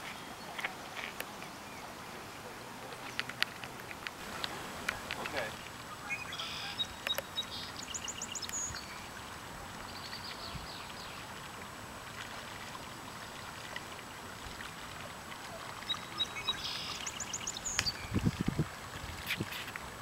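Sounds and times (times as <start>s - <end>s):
faint watery hiss: 0.0s - 20.0s.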